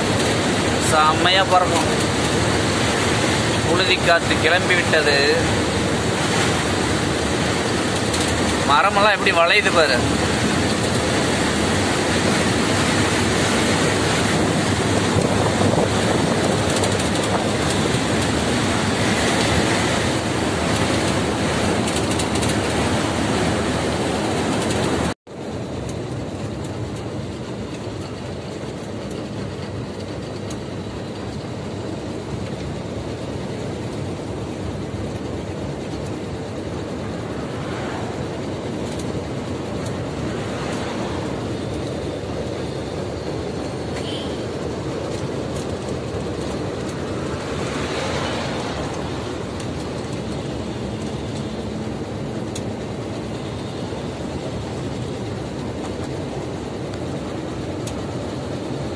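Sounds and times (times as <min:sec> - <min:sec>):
truck engine and road noise: 0:00.0 - 0:58.9
wind rushing against truck cab: 0:00.0 - 0:58.9.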